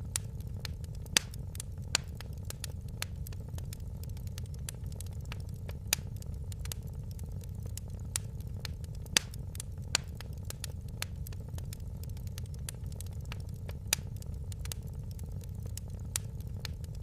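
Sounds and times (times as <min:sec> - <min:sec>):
loud fire pops: 0:00.0 - 0:17.0
steady low rumble: 0:00.0 - 0:17.0
wood fire crackling: 0:00.0 - 0:17.0.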